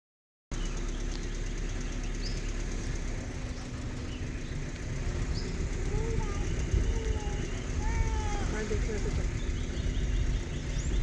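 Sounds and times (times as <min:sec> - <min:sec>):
vehicle engine idling: 0:00.5 - 0:11.0.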